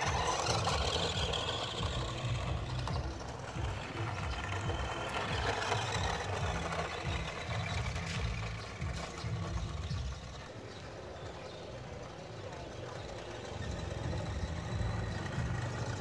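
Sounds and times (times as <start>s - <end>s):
toy truck electric motor: 0.0s - 16.0s.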